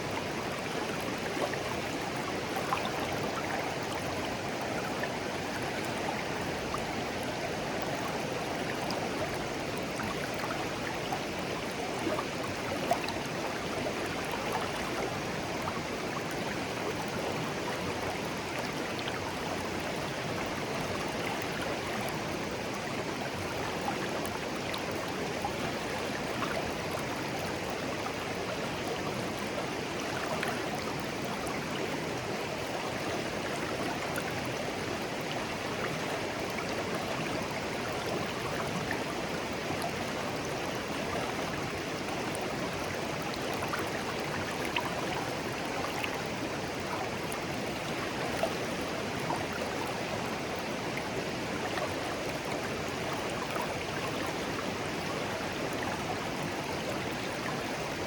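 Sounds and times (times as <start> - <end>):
stream babbling over stones: 0.0 - 58.0
water splashes and trickles: 0.0 - 58.0.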